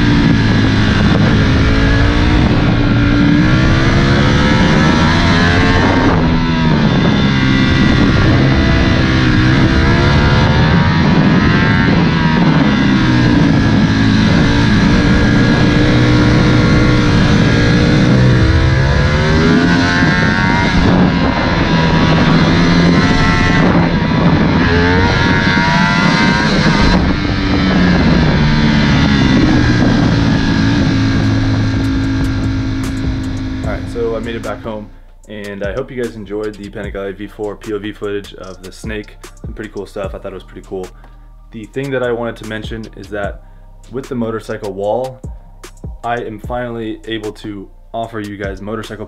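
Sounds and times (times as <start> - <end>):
motorcycle engine revving: 0.0 - 47.4.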